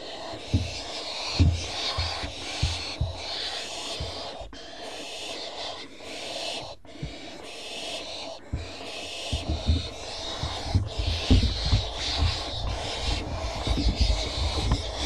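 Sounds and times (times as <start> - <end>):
low thumps on nest box: 0.0 - 4.6, 6.9 - 15.0
owls making hissing calls: 0.0 - 15.0.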